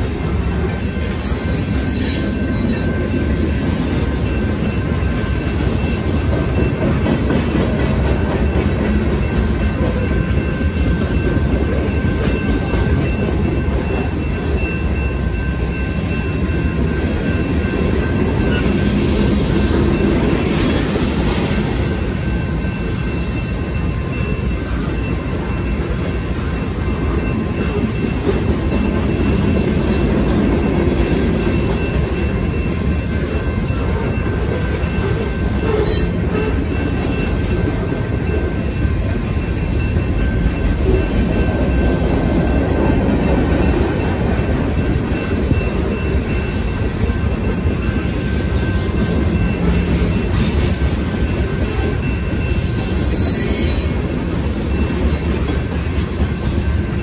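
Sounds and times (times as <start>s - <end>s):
crossing signal bell ringing: 0.0s - 57.0s
train wheels rumbling on rail: 0.0s - 57.0s.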